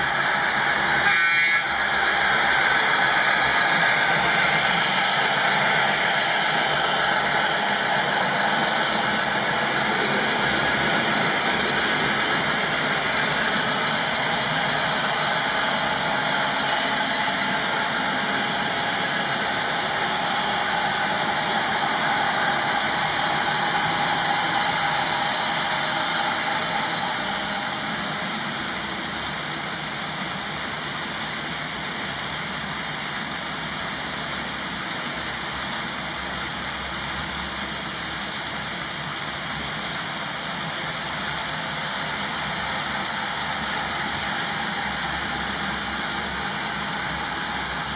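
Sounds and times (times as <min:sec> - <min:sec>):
model train wheels rumbling: 0:00.0 - 0:47.9.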